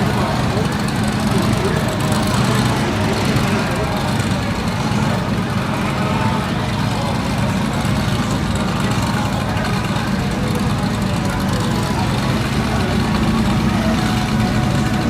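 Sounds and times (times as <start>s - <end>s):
car engine idling: 0.0s - 15.0s
people's voices in background: 0.0s - 15.0s.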